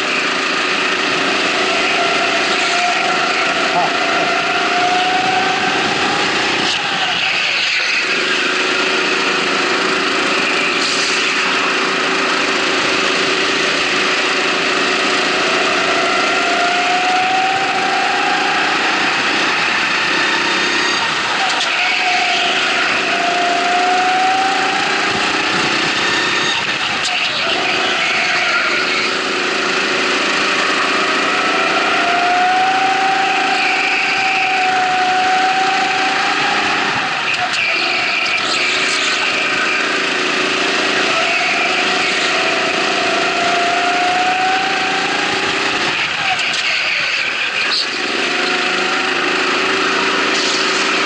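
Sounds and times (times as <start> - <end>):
go-kart engine accelerating: 0.0 - 51.0.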